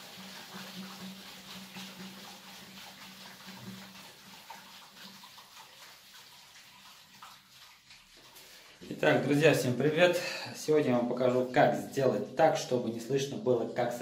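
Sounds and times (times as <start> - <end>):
water rushing through pipe: 0.0 - 14.0.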